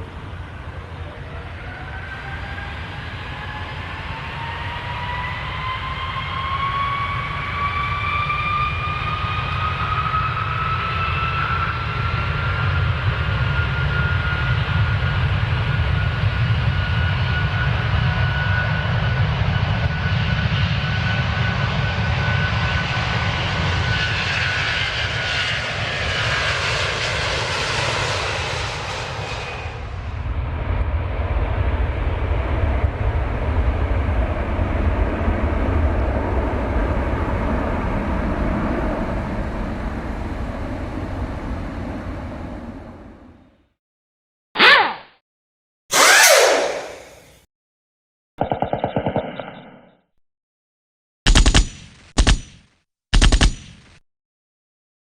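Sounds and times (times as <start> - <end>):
aircraft engine roaring and whining: 0.0 - 43.7, 45.9 - 47.5.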